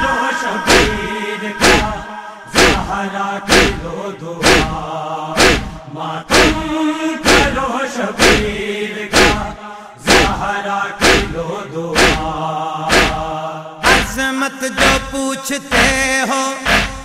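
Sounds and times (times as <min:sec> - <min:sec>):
men chanting in chorus: 0:00.0 - 0:17.0
chest beating slaps: 0:00.6 - 0:11.4, 0:12.0 - 0:14.2, 0:14.8 - 0:16.0, 0:16.6 - 0:17.0.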